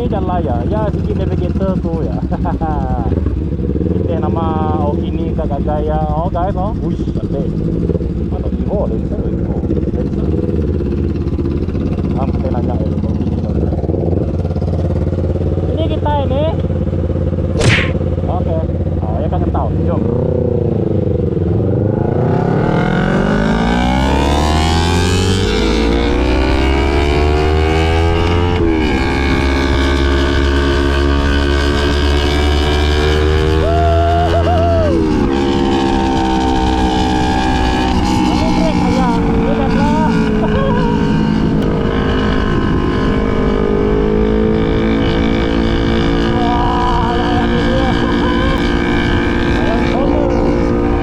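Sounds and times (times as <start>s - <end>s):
motorcycle engine accelerating: 0.0s - 51.0s
ride rumble: 0.0s - 51.0s.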